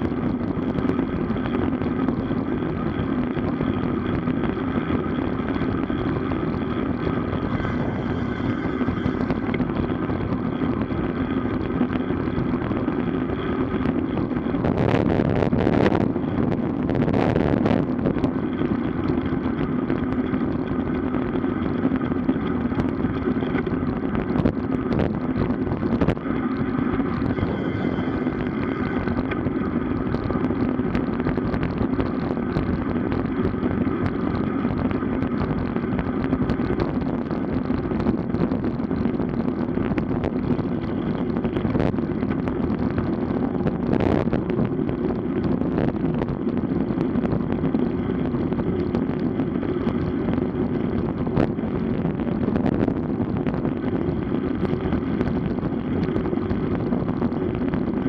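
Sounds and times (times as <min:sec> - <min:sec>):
low drone: 0:00.0 - 0:58.0
wind and road noise: 0:00.0 - 0:58.0.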